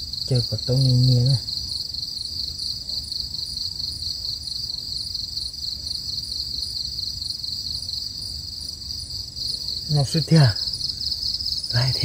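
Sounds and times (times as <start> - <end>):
crickets trilling: 0.0 - 12.0
higher pulsing insect call: 0.0 - 12.0.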